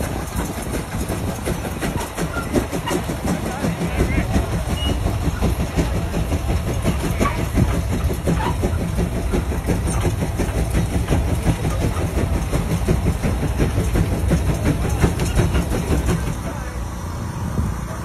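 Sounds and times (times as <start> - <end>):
steam engine chuffing: 0.0 - 18.0.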